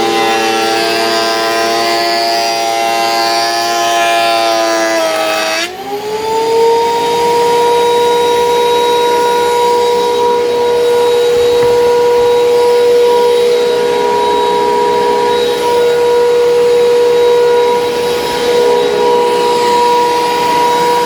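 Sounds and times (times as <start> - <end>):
planer motor whining: 0.0 - 21.0
thickness planer cutting wood: 0.0 - 21.0.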